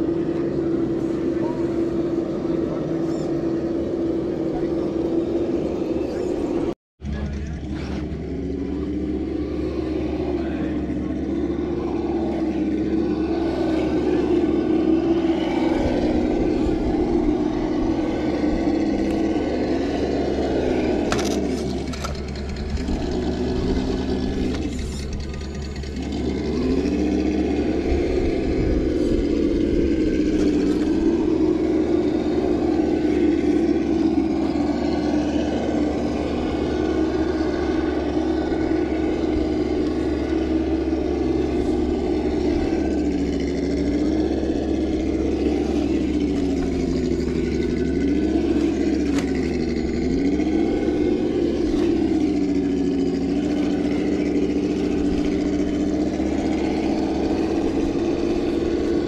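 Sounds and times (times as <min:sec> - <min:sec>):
toy car motor whining: 0:07.7 - 0:59.0.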